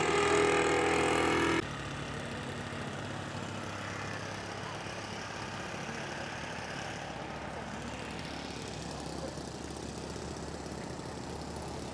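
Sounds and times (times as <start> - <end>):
engine idling: 0.0 - 11.9
model aircraft engine running fast: 0.0 - 11.9.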